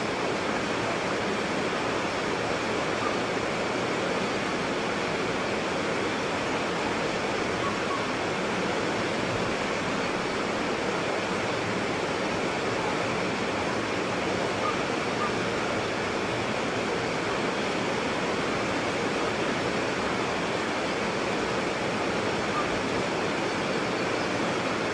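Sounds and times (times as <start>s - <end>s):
white water rapids roaring: 0.0s - 24.9s.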